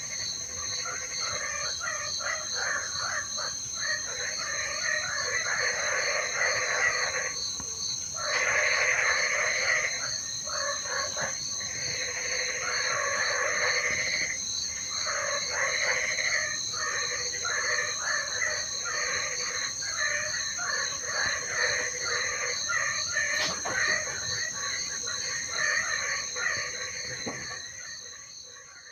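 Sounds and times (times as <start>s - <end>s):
frogs croaking: 0.0s - 28.9s
high-pitched insect trills: 0.0s - 28.9s.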